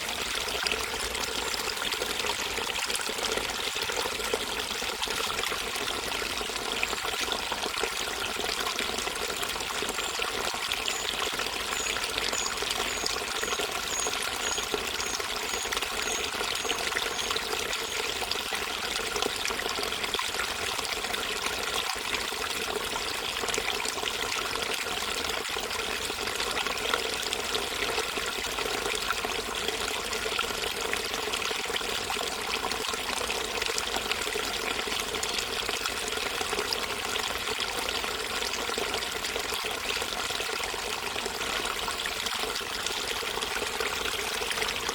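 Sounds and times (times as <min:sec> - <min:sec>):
water flowing and trickling: 0:00.0 - 0:44.9.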